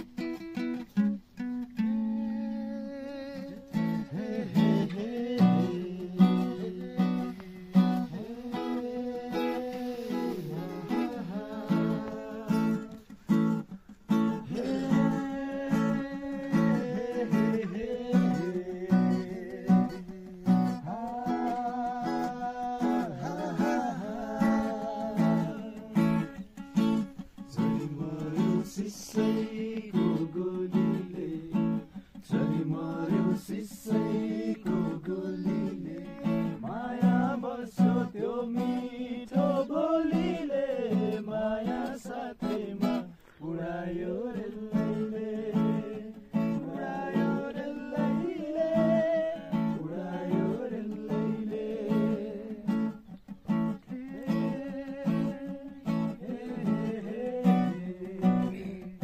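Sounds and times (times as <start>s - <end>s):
strummed acoustic guitar: 0.0s - 59.0s
person singing: 1.8s - 59.0s.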